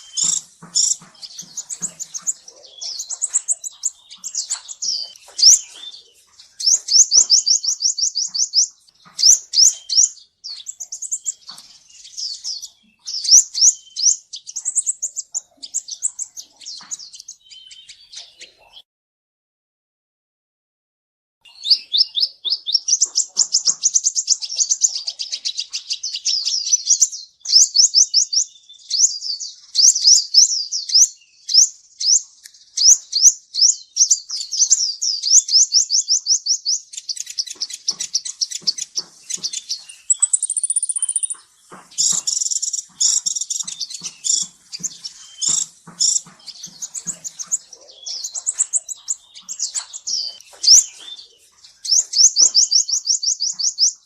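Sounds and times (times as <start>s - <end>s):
sunbird singing: 0.0s - 18.8s, 21.4s - 54.0s.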